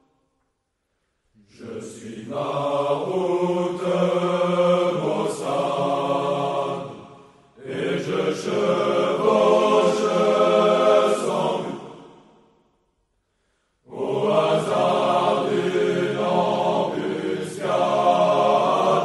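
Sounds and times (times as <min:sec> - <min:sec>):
unaccompanied singing: 0:01.4 - 0:12.3, 0:13.9 - 0:19.0.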